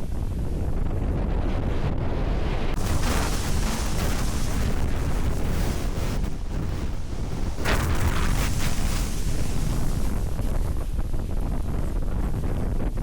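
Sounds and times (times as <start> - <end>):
strong wind buffeting microphone: 0.0 - 13.0
gust of rushing wind: 0.1 - 12.7.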